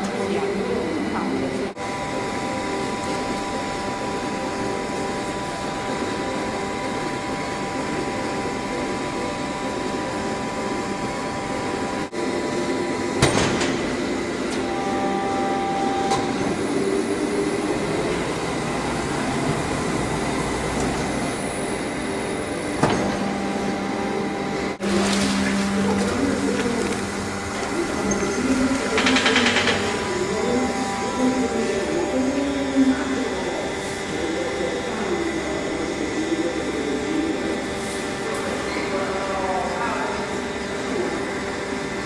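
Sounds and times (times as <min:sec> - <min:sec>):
textile machinery humming and whining: 0:00.0 - 0:42.0.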